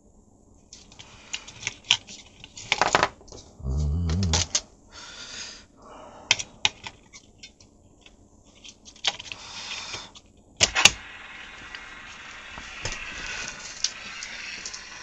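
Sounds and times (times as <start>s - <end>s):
steady radio hiss: 0.0s - 15.0s.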